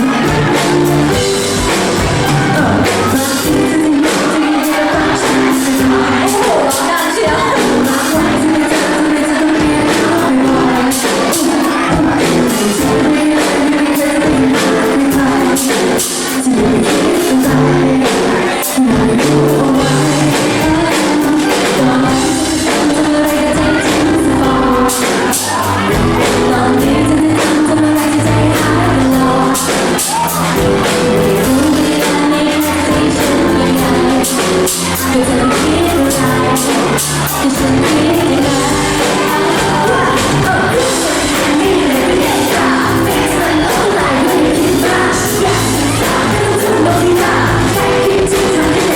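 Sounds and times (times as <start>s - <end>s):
band with steady beat: 0.0s - 48.9s
female pop vocal group singing: 0.0s - 48.9s.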